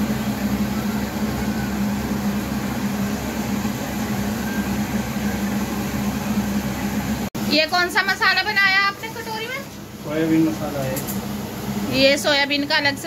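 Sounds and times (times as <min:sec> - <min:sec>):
low electrical motor hum: 0:00.0 - 0:13.0.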